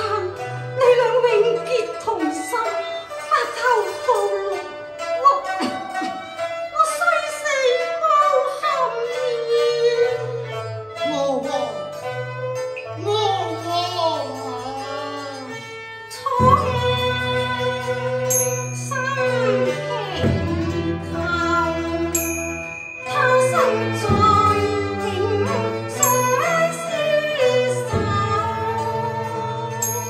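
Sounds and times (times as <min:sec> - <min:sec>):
opera music sliding melody: 0:00.0 - 0:30.0.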